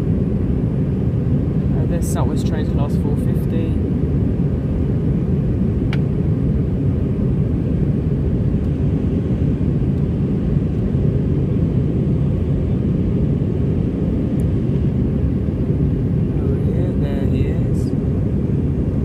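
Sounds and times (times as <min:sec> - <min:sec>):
jet engine rumble in cabin: 0:00.0 - 0:19.0.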